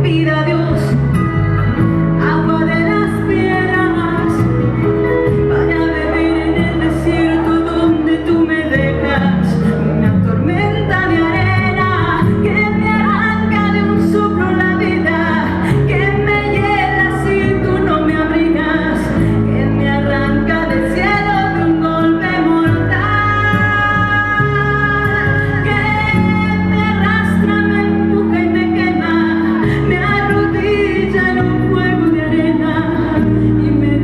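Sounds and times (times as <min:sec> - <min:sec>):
bass line: 0:00.0 - 0:34.0
woman singing: 0:00.0 - 0:34.0.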